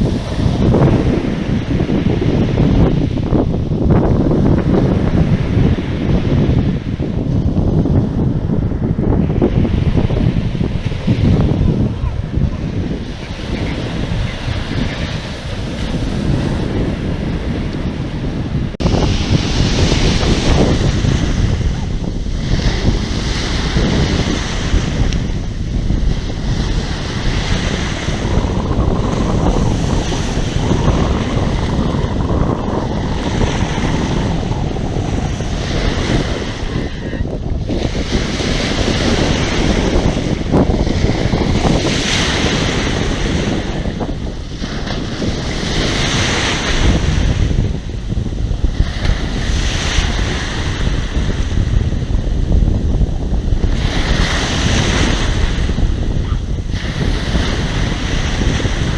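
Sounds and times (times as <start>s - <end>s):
sea waves breaking: 0.0s - 58.9s
wind noise on microphone: 0.0s - 58.9s.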